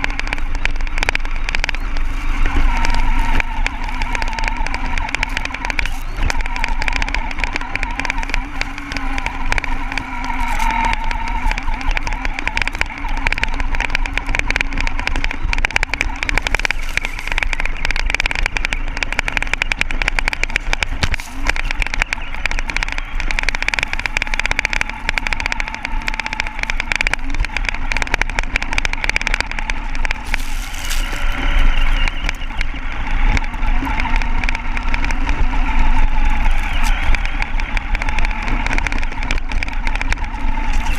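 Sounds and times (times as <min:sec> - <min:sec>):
chassis clicks and rattles: 0:00.0 - 0:40.9
toy car motor whine: 0:00.0 - 0:40.9.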